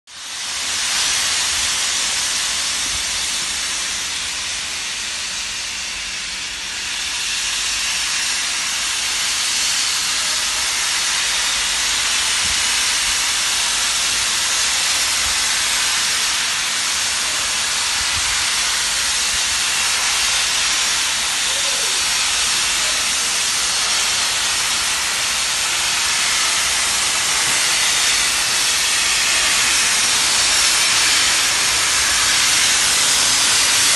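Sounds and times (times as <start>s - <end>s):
steam locomotive hissing: 0.1s - 33.9s.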